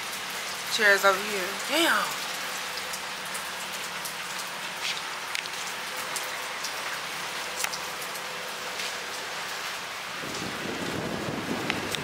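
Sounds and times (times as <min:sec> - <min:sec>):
rain falling on patio: 0:00.0 - 0:12.0.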